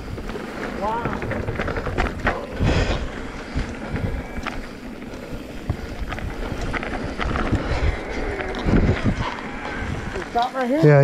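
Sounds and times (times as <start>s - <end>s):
tyre rumble on dirt: 0.0s - 10.3s
bike knocking and rattling: 0.0s - 11.0s
wind buffeting microphone: 0.0s - 11.0s.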